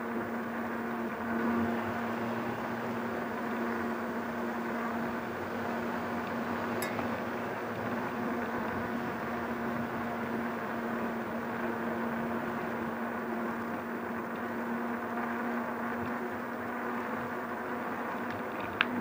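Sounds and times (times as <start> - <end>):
electric bike riding hum: 0.0 - 19.0.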